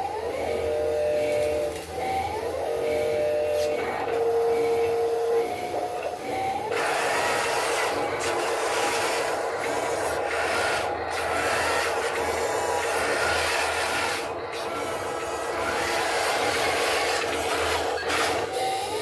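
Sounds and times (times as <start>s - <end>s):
machinery whine: 0.0s - 19.0s.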